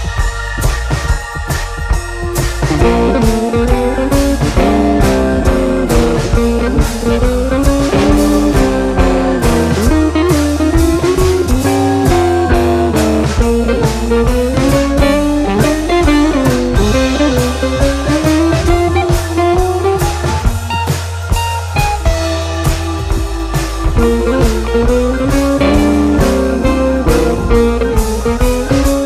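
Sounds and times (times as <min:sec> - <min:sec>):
blues-rock music: 0:00.0 - 0:29.0.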